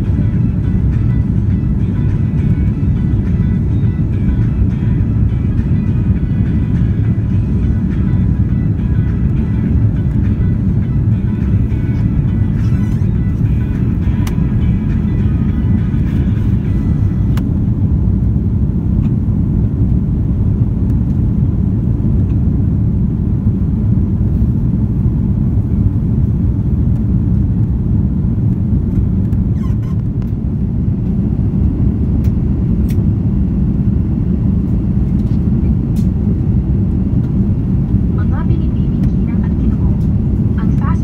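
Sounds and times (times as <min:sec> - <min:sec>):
jet engine cabin rumble: 0:00.0 - 0:41.0.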